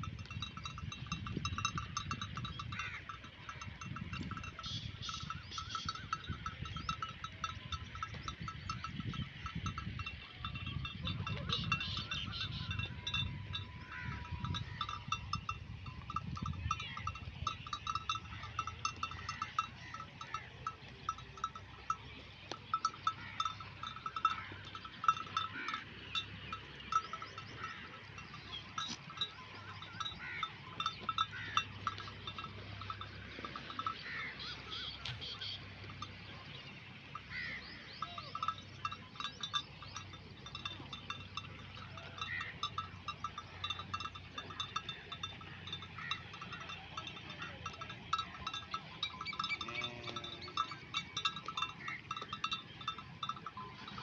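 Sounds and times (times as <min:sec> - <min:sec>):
sheep bells clinking: 0:00.0 - 0:54.0.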